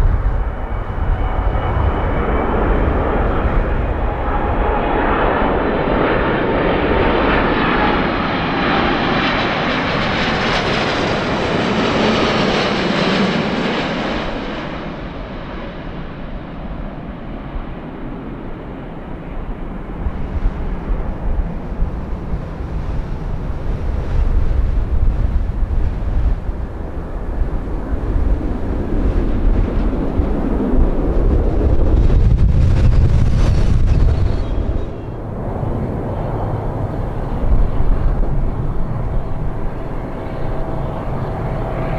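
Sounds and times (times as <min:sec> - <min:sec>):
jet airliner passing overhead: 0:00.0 - 0:41.9.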